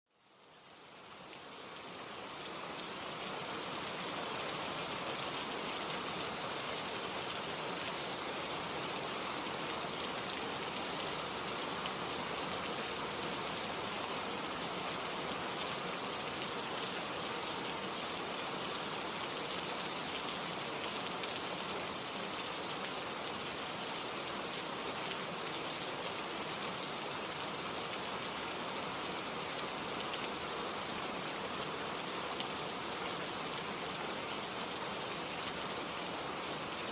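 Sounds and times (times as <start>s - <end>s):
gentle rain falling: 0.1s - 36.9s.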